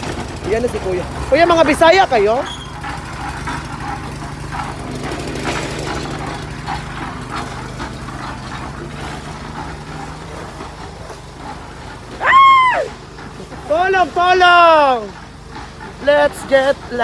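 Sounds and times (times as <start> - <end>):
knocks and clatter: 0.0 - 17.0
machinery engine idling: 0.0 - 17.0.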